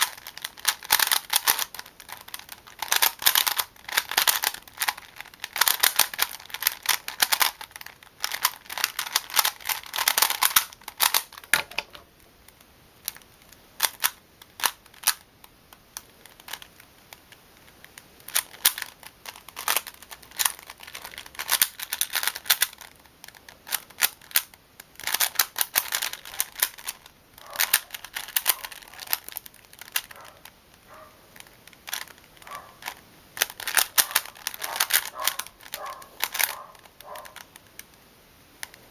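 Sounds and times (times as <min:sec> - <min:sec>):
speed cube clicking: 0:00.0 - 0:30.2, 0:31.4 - 0:38.0.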